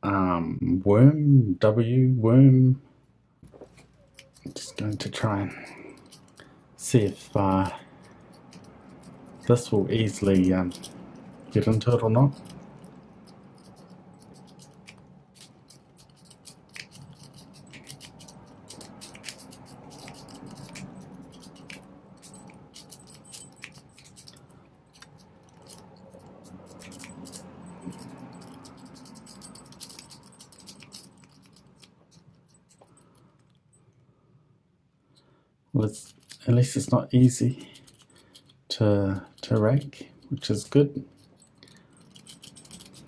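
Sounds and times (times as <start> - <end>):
lock pick scratching and clicking: 4.0 - 33.6, 36.0 - 36.6, 37.2 - 43.0.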